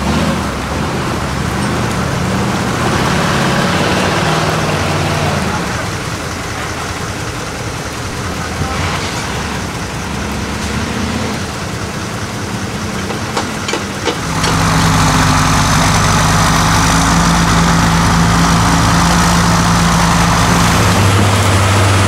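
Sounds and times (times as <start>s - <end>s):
engine revving: 0.0s - 22.0s
truck engines running: 0.0s - 22.0s.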